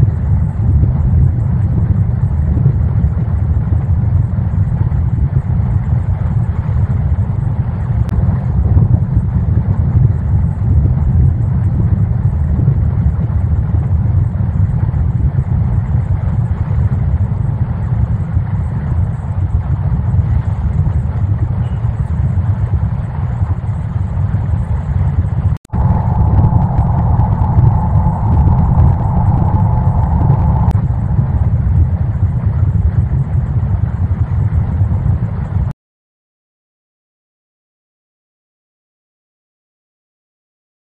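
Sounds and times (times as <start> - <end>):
faint steady whine: 0.0 - 35.7
wind on microphone: 0.0 - 35.7.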